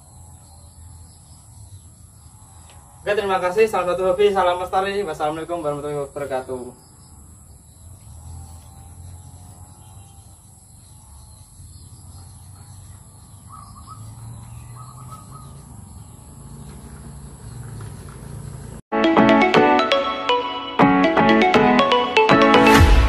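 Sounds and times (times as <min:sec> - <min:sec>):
birds calling faintly: 0:00.0 - 0:18.8
rapid bird chirping: 0:00.0 - 0:18.8.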